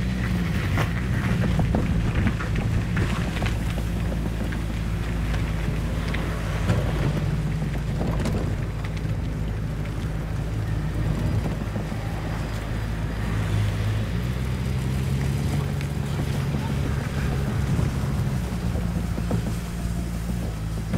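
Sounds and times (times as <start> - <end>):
light rattles: 0.0 - 20.9
road noise: 0.0 - 20.9
vehicle engine running: 0.0 - 20.9
wind buffeting microphone: 0.0 - 20.9.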